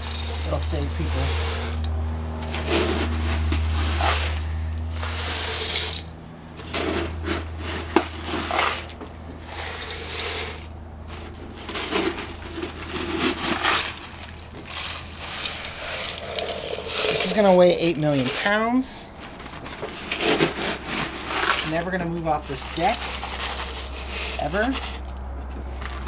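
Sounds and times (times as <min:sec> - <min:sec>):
gravel pouring into clay pot: 0:00.0 - 0:01.8, 0:02.4 - 0:18.9, 0:20.4 - 0:25.1
low steady hum: 0:00.0 - 0:26.0.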